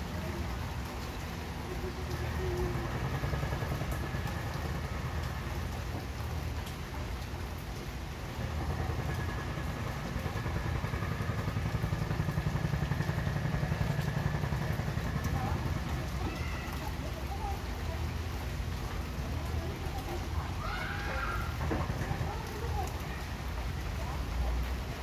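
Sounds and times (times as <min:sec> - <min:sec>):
low traffic rumble: 0:00.0 - 0:25.0
steady rain falling: 0:00.0 - 0:25.0.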